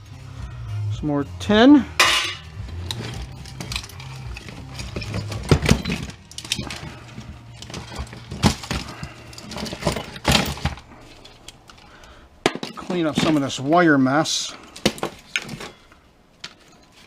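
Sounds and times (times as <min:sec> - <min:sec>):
metal and plastic parts clinking: 0:02.0 - 0:13.8, 0:14.6 - 0:17.0.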